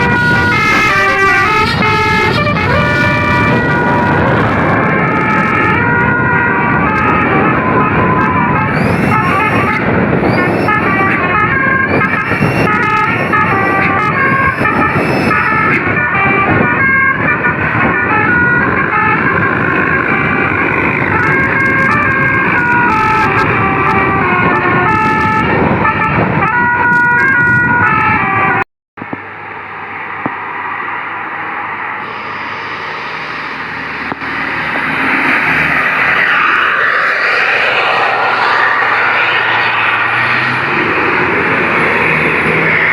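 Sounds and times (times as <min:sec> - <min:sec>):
bus multi-horn melody: 0:00.0 - 0:28.6, 0:32.0 - 0:42.9
engine and road noise: 0:00.0 - 0:42.9.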